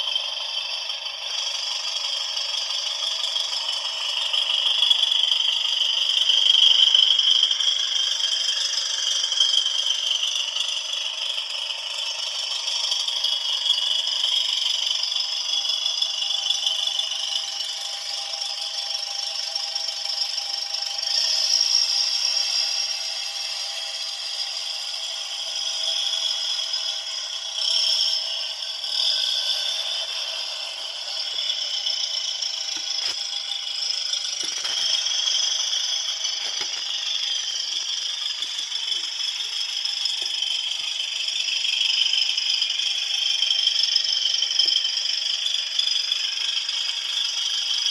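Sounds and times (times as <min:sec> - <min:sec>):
thin rattling engine drone: 0:00.0 - 0:47.9.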